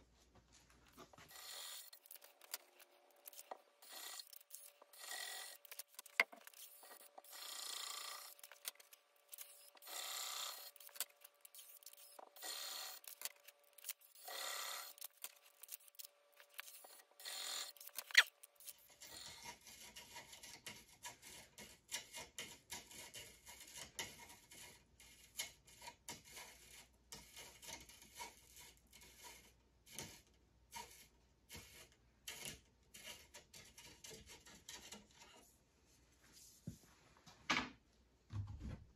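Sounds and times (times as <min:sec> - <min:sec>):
rasping strokes on wood: 0:01.2 - 0:35.4.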